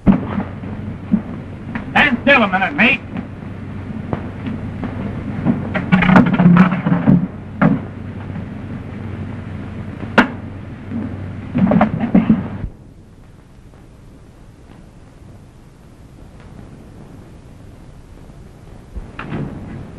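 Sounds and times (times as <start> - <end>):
film soundtrack hum and hiss: 0.0 - 19.9.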